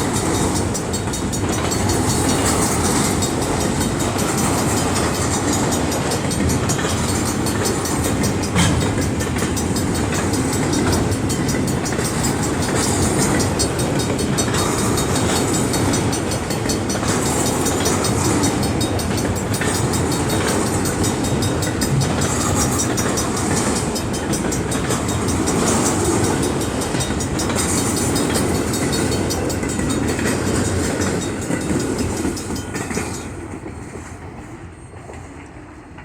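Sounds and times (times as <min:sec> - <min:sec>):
train wheels clattering: 0:00.0 - 0:36.0.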